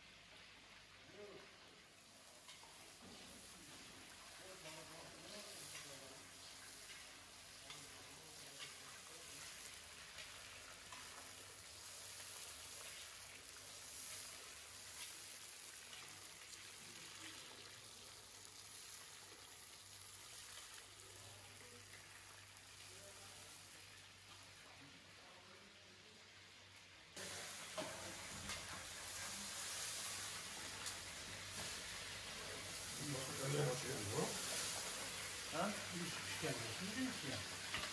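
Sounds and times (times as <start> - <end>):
oil sizzling with small pops: 0.0 - 25.2, 26.2 - 37.9.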